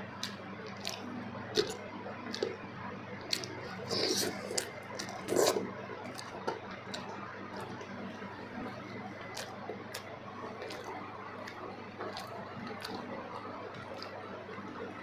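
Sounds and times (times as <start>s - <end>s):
person chewing soft food: 0.0s - 15.0s.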